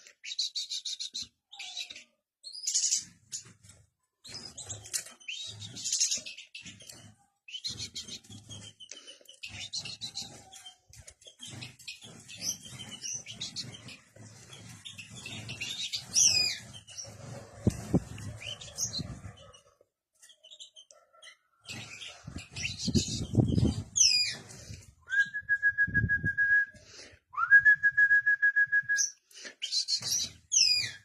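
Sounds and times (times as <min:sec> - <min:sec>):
pet birds chirping: 0:00.0 - 0:24.8, 0:29.4 - 0:31.0.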